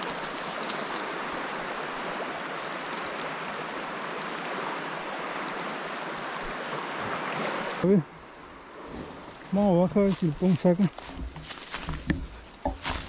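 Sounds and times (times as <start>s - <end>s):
flooded river rushing: 0.0s - 13.0s.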